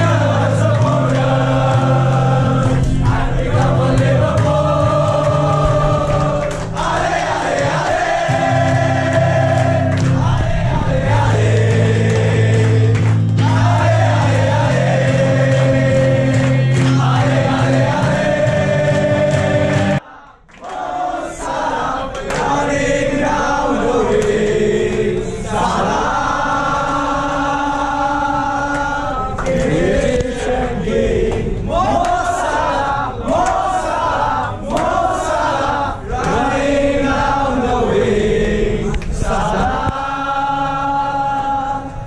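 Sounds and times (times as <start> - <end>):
crowd chanting in unison: 0.0 - 42.0.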